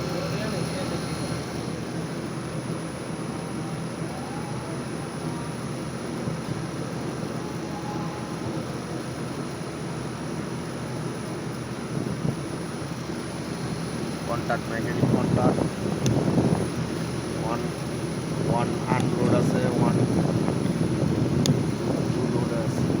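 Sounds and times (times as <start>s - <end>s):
faint high whine: 0.0s - 23.0s
outdoor air conditioner hum: 0.0s - 23.0s.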